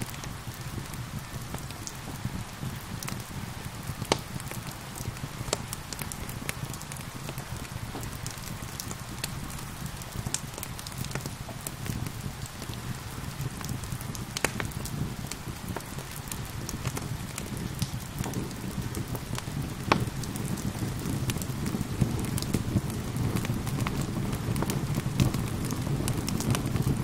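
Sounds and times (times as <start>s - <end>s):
rain falling: 0.0s - 27.0s
wood fire crackling: 0.0s - 27.0s.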